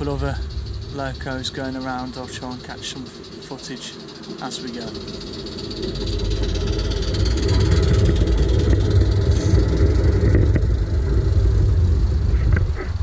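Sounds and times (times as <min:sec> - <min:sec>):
miniature train wheels rumbling: 0:00.0 - 0:13.0.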